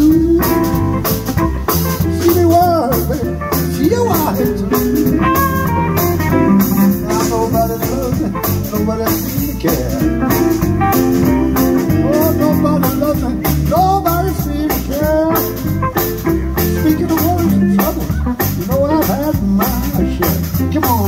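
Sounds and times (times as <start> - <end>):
guitar with bending notes: 0.0 - 21.0
live blues band: 0.0 - 21.0.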